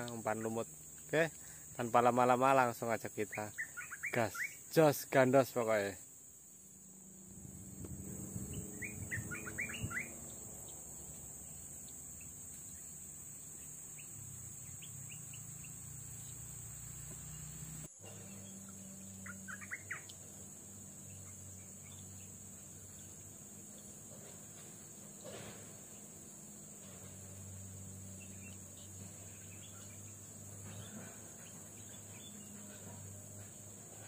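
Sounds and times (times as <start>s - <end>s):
small birds chirping: 0.0s - 6.0s, 7.8s - 34.0s
high-pitched hiss: 0.0s - 34.0s.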